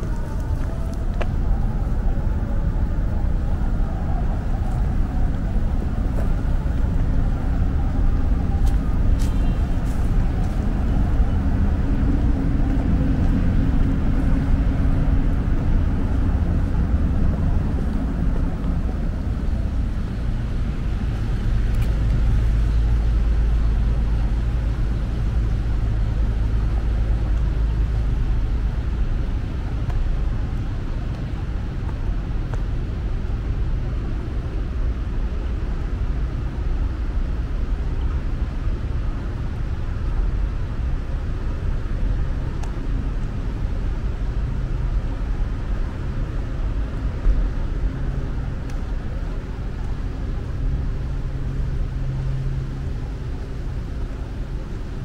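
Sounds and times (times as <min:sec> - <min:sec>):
vehicle engines rumbling: 0:00.0 - 0:55.0.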